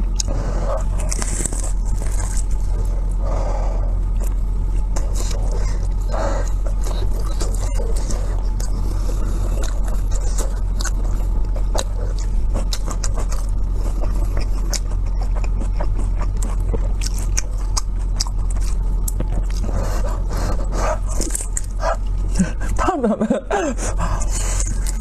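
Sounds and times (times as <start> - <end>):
person chewing food: 0.0 - 25.0
steady low hum: 0.0 - 25.0.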